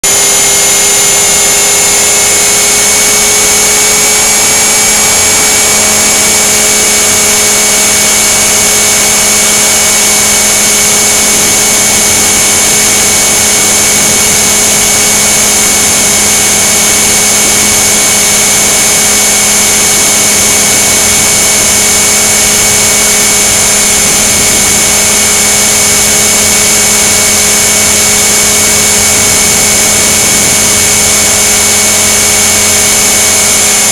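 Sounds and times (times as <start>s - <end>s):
electric motor and gears whining: 0.0s - 33.9s
rotor and wind rushing: 0.1s - 33.9s.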